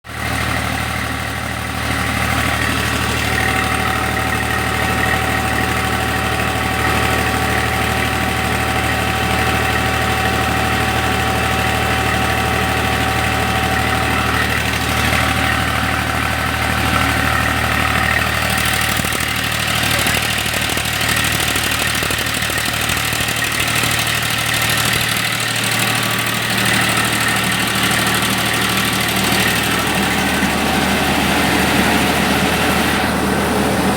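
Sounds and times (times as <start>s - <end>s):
tractor engine drone: 0.0s - 33.9s
milling machinery humming: 1.7s - 33.9s.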